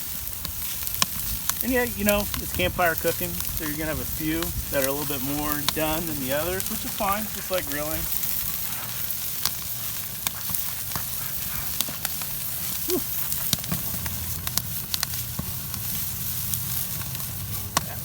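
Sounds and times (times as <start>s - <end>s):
campfire crackling: 0.0s - 18.0s
chicken wings sizzling on grill: 0.0s - 18.0s.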